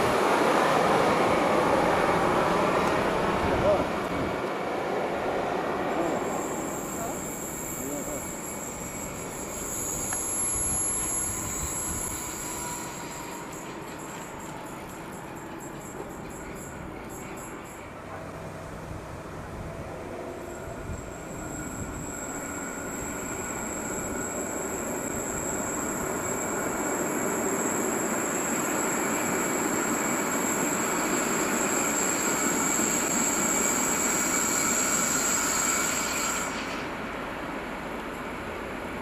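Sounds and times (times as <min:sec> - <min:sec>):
steady high-pitched tone: 0:00.0 - 0:18.8, 0:19.4 - 0:36.7
train rumbling past: 0:00.0 - 0:39.0.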